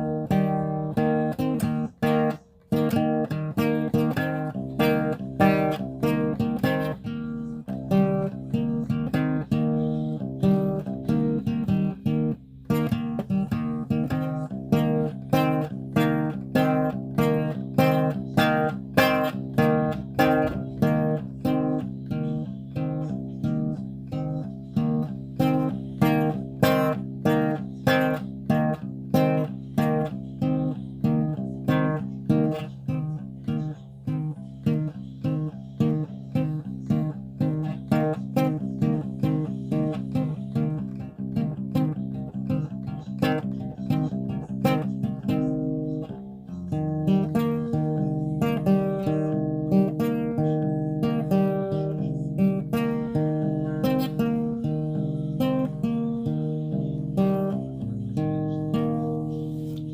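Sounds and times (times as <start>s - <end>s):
solo guitar strummed: 0.0s - 59.9s.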